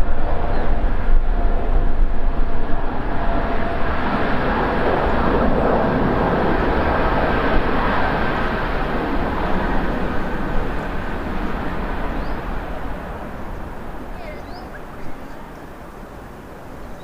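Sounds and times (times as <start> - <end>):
jet engine rush: 0.0 - 17.0.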